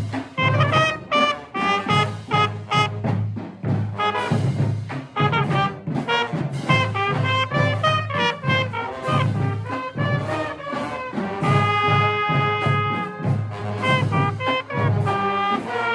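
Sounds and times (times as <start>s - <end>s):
brass instrument swing playing: 0.0s - 15.9s.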